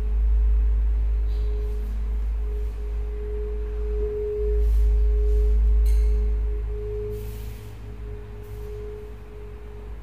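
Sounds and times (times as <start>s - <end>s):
deep bass drone: 0.0s - 10.0s
steady pure tone: 0.0s - 10.0s.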